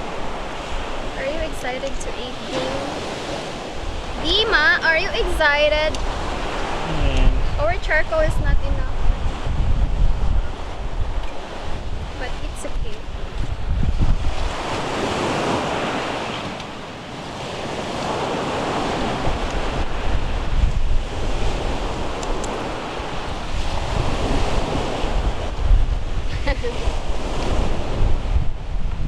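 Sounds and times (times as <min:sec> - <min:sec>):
sea waves washing ashore: 0:00.0 - 0:29.0
wind buffeting microphone: 0:00.0 - 0:29.0.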